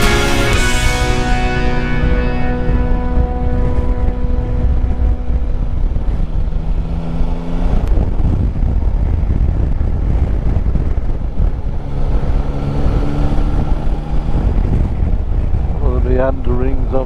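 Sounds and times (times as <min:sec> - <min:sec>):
motorcycle engine running: 0:00.0 - 0:17.0
wind buffeting on microphone: 0:00.0 - 0:17.0.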